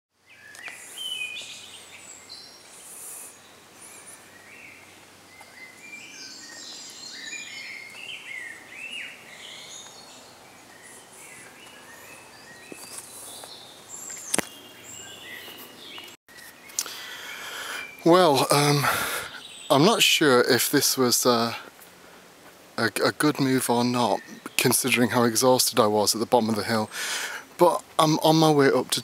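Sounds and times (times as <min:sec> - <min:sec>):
faint outdoor hiss: 0:00.2 - 0:29.0
songbirds singing: 0:00.2 - 0:29.0.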